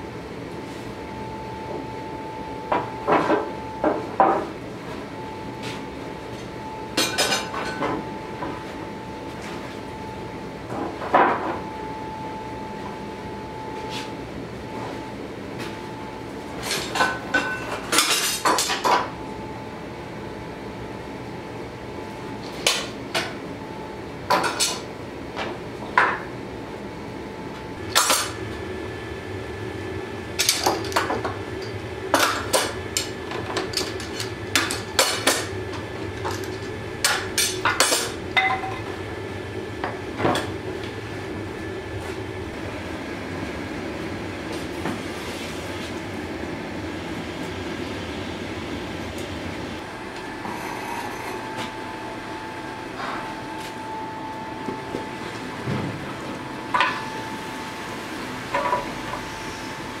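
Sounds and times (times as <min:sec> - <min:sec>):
gas forge roaring: 0:00.0 - 1:00.0.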